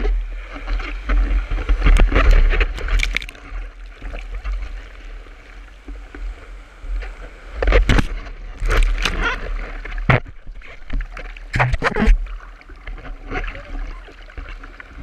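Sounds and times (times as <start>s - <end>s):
whitewater rushing and splashing: 0.0s - 15.0s.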